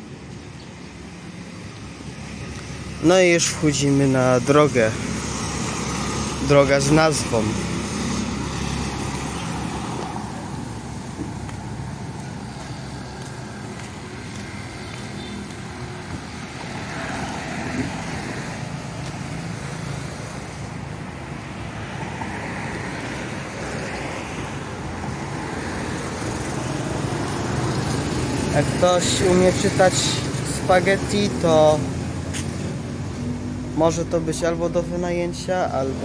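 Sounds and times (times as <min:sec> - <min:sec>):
motorbikes and cars passing: 0:00.0 - 0:36.0.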